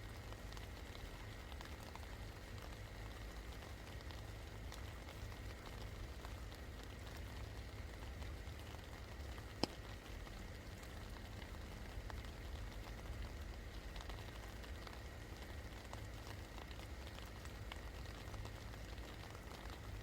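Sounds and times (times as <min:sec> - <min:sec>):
rain falling: 0:00.0 - 0:20.0
raindrops tapping: 0:00.0 - 0:20.0.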